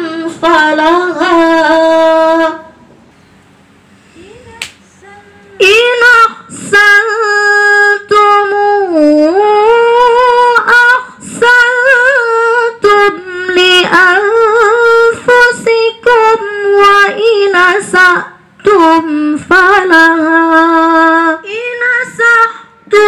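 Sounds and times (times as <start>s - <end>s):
woman reciting melodically: 0.0s - 2.8s, 4.1s - 23.0s.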